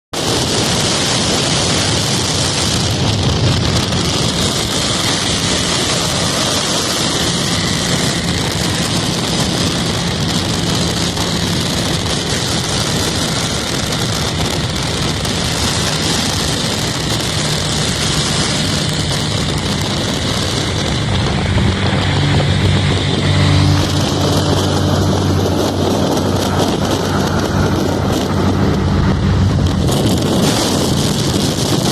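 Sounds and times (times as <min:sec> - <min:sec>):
car engine running: 0:00.2 - 0:31.9
wind buffeting microphone: 0:00.2 - 0:31.9.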